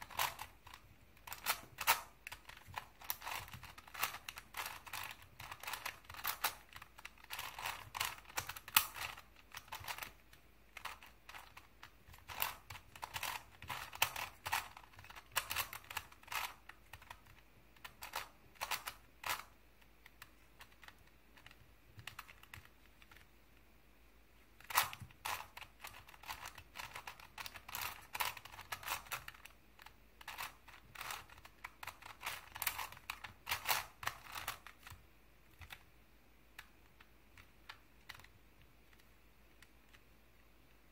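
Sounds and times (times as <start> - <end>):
puzzle cube clicking: 0.0 - 23.4, 24.5 - 35.9, 36.5 - 40.8.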